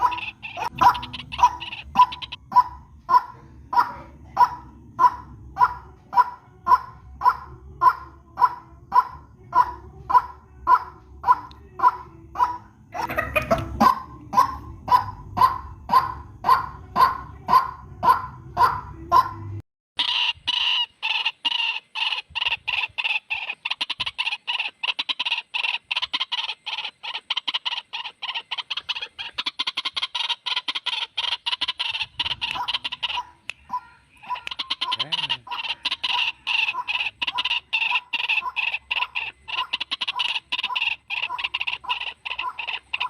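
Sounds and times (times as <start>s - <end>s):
waterhen calling: 0.0s - 43.0s.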